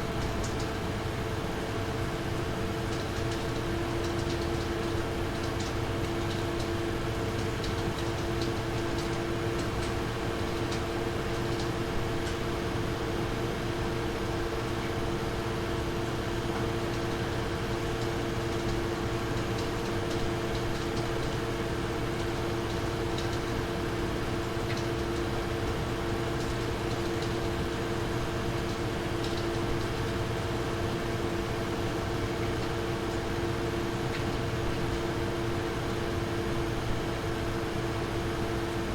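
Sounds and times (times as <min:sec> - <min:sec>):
graphics card fans humming: 0:00.0 - 0:38.9.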